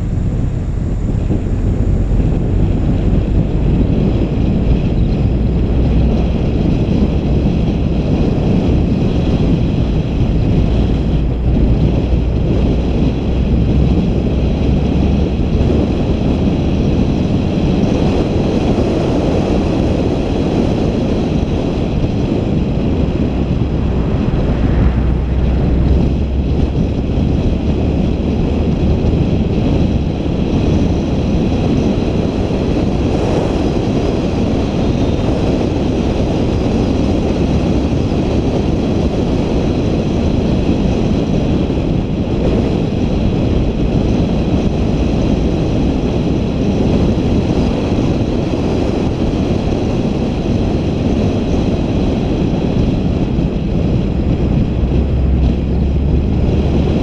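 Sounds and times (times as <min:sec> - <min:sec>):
vehicle rushing on road: 0:00.0 - 0:57.0
wind buffeting microphone: 0:00.0 - 0:57.0.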